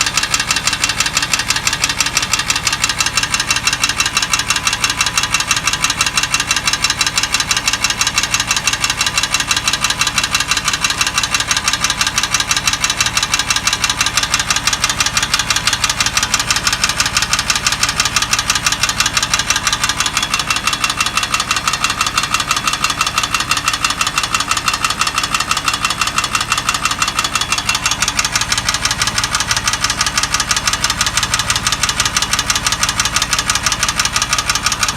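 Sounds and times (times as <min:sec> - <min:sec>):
car engine running: 0:00.0 - 0:34.9
rapid engine ticking: 0:00.0 - 0:34.9.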